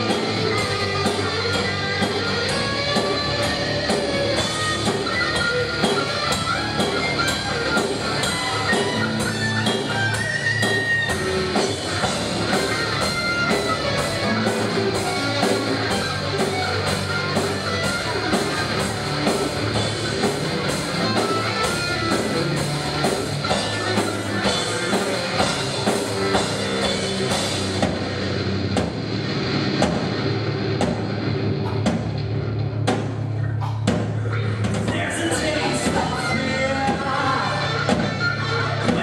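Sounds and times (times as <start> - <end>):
distorted electric guitars: 0.0 - 39.0
drum kit beat: 0.0 - 39.0.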